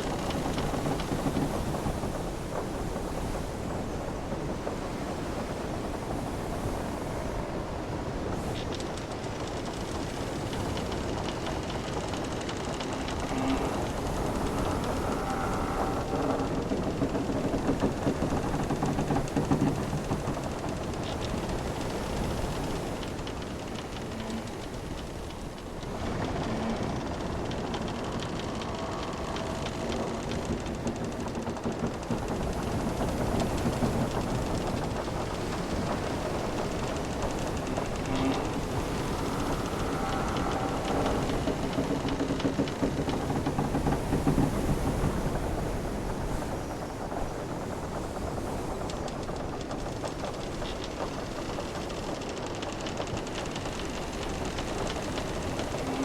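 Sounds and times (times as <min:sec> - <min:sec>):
ocean waves: 0:00.0 - 0:56.0
rumble of sea and wind: 0:00.0 - 0:56.0
wooden ship timbers creaking: 0:00.0 - 0:56.0
short wooden ticks: 0:08.3 - 0:56.0.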